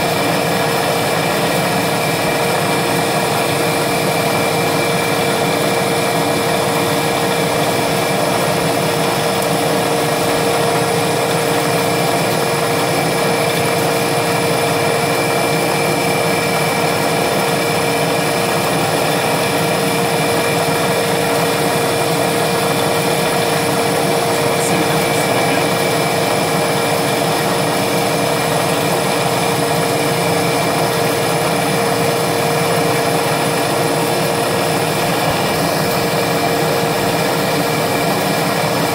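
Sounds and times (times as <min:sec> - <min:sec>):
milling machine cutting metal: 0:00.0 - 0:38.9.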